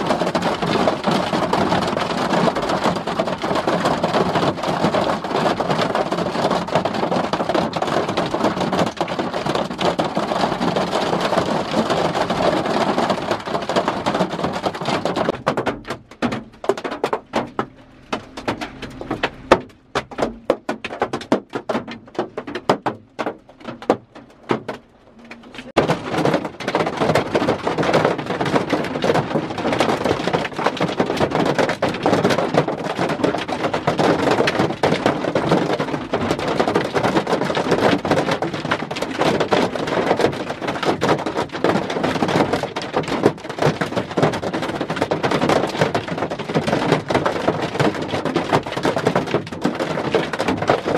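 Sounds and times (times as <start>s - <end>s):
hail drumming on vehicle roof: 0.0s - 50.9s.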